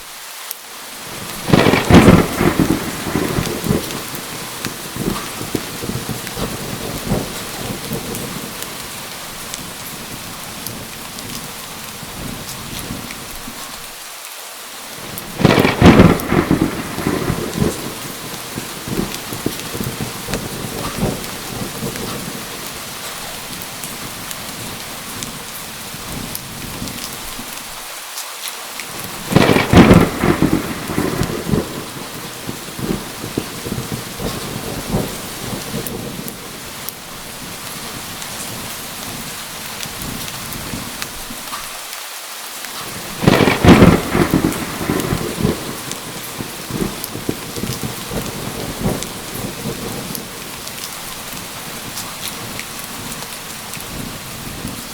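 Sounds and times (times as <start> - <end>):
heavy rain falling: 0.0 - 54.9
thunder claps: 1.1 - 13.3, 15.0 - 27.5, 28.9 - 41.6, 42.8 - 54.9.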